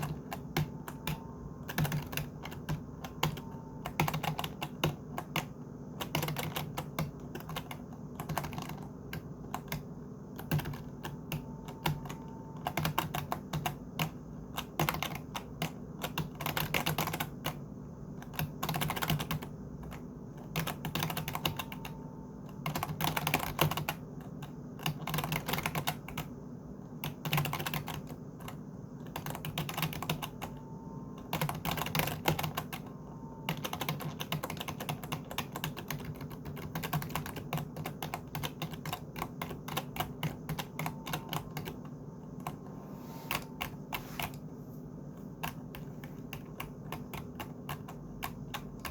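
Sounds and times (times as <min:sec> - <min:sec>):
typing on computer keyboard: 0:00.0 - 0:42.7, 0:43.3 - 0:44.5, 0:45.2 - 0:48.9.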